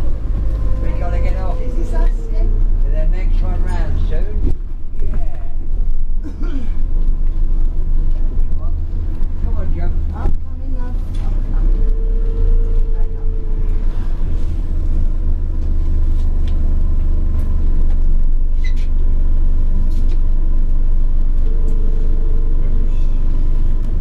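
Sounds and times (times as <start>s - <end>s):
bus engine deep rumble: 0.0s - 24.0s
mid-pitched hum: 0.0s - 24.0s.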